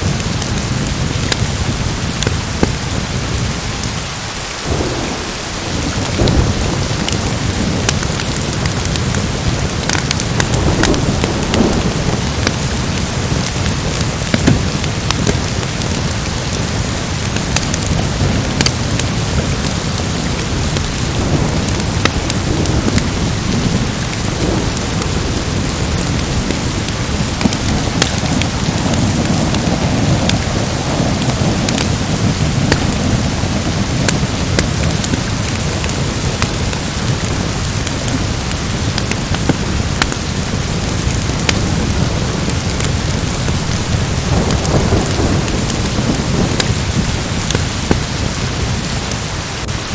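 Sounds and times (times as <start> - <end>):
thunder rumble: 0.0 - 49.1
log fire crackling: 0.0 - 49.8
heavy rain: 0.0 - 49.9.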